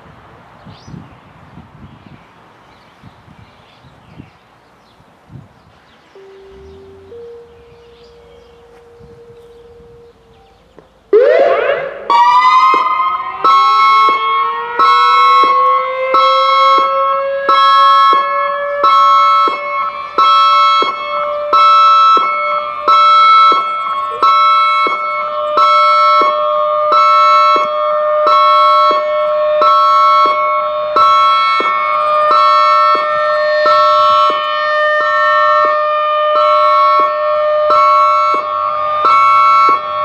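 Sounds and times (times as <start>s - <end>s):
electronic siren pulsing: 6.2s - 40.0s.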